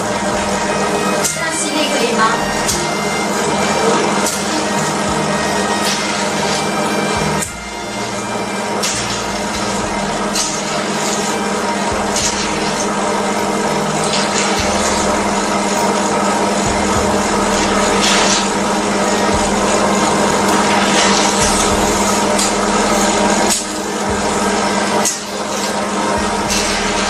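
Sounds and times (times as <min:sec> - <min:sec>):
pump motor humming: 0:00.0 - 0:27.0.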